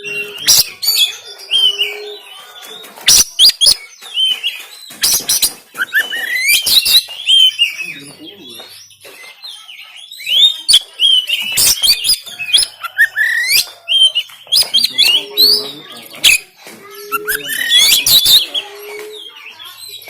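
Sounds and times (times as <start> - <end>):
bird singing harsh varied song: 0.0 - 20.0.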